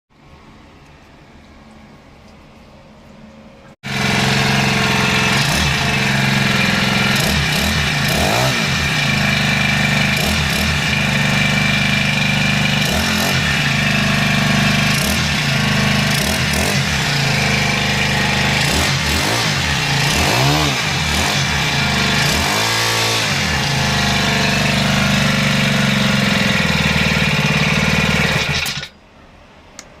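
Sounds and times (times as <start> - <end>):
small engine revving: 3.8 - 28.9.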